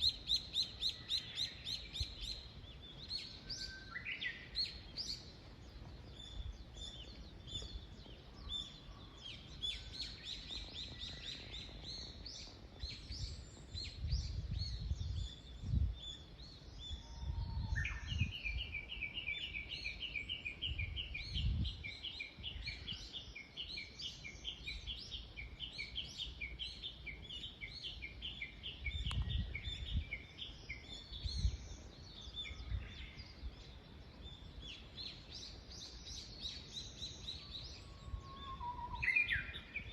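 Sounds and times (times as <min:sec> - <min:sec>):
small birds singing and chirping: 0:00.0 - 0:39.9.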